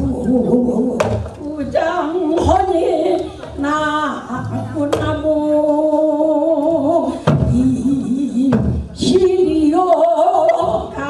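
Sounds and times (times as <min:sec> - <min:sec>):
elderly woman singing: 0:00.0 - 0:11.0.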